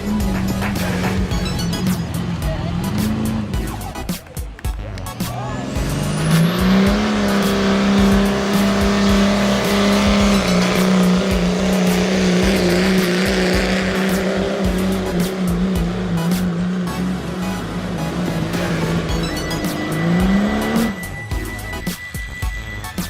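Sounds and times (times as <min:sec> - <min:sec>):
diesel truck engine at high revs: 0:00.0 - 0:23.0.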